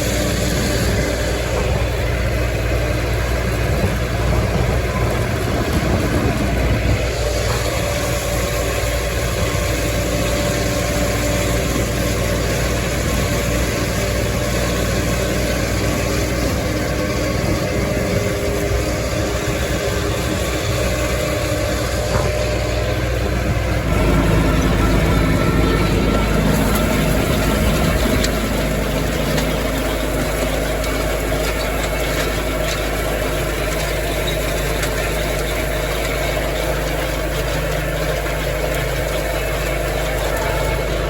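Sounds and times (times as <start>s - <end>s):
tractor engine rumbling: 0.0s - 41.0s.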